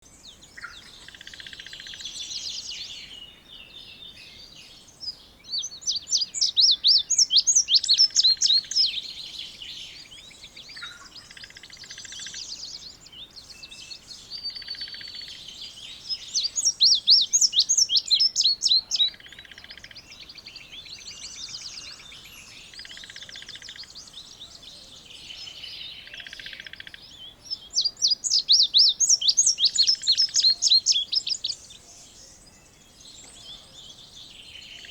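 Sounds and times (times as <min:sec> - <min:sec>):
bird song of rapid high notes: 0:00.0 - 0:34.9
faint bird calls: 0:00.5 - 0:34.9.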